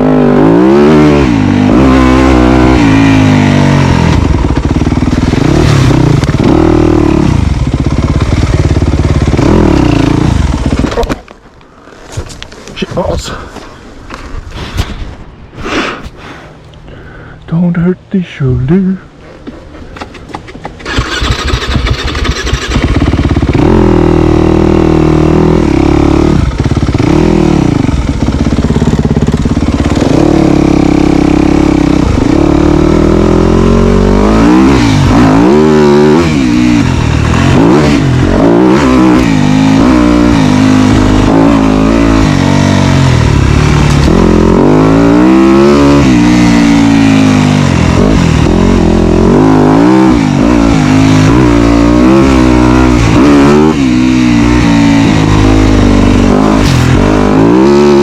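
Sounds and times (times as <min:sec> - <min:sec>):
dirt bike engine revving: 0:00.0 - 0:11.1, 0:20.8 - 0:58.0.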